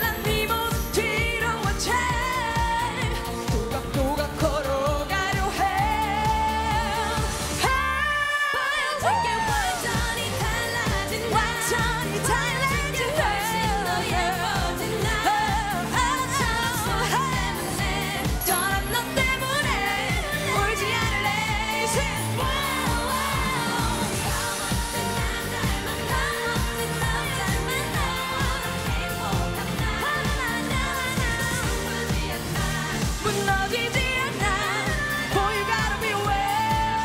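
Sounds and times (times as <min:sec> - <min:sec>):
pop backing music with dance beat: 0:00.0 - 0:37.0
woman singing into microphone: 0:00.0 - 0:37.0.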